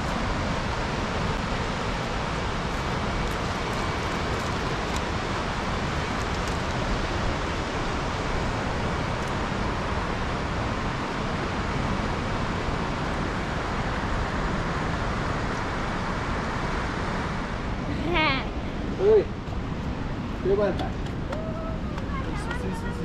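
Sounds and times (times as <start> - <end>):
river roaring in flood: 0.0 - 23.0.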